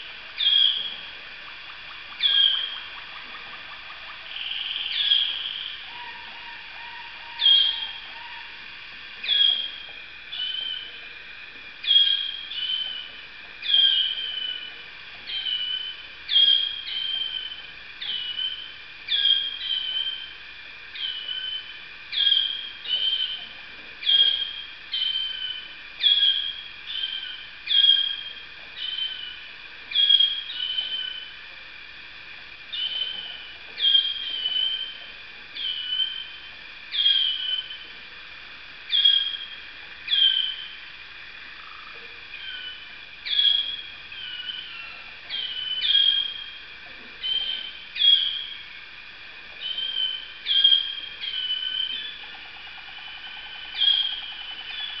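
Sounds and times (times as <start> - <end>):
canary singing: 0.0 - 8.6, 9.2 - 11.0, 11.8 - 14.7, 15.3 - 20.3, 20.9 - 31.3, 32.7 - 37.9, 38.9 - 40.8, 42.3 - 46.6, 47.2 - 48.7, 49.6 - 55.0.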